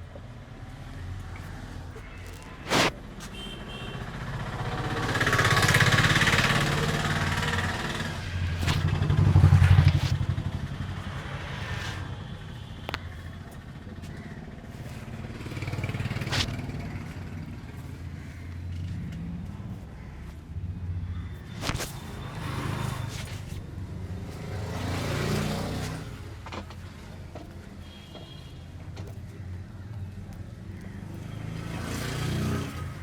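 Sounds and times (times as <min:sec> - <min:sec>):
vehicles passing: 0:00.0 - 0:33.0.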